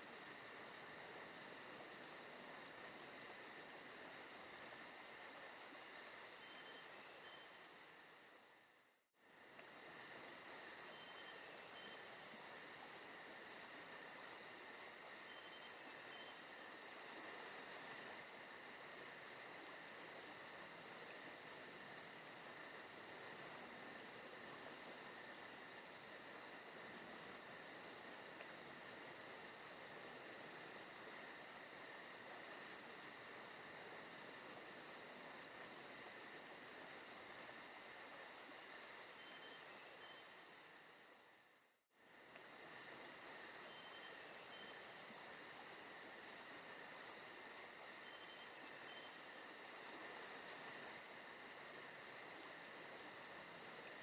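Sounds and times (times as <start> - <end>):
crickets and insects chirring: 0.0 - 54.0.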